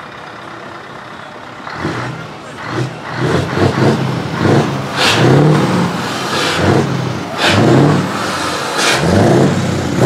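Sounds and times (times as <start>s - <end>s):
truck diesel engine revving: 1.5s - 10.0s.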